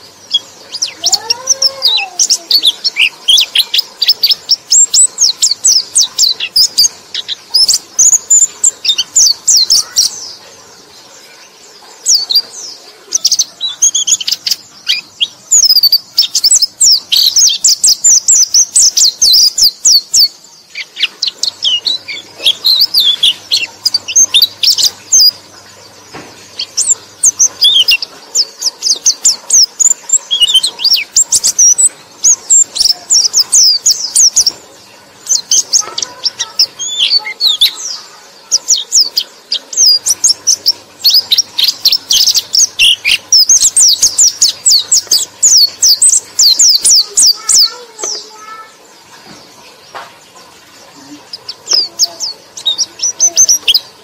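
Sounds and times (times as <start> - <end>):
bird chirping and warbling: 0.0 - 54.0.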